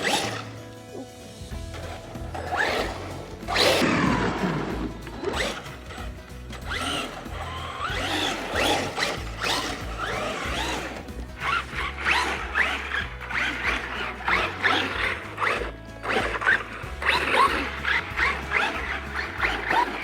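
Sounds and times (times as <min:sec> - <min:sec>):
toy truck motor whining: 0:00.0 - 0:20.0.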